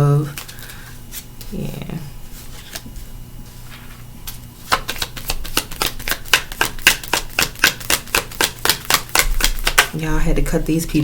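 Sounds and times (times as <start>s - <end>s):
cards being shuffled by hand: 0.3s - 1.6s, 2.3s - 10.0s.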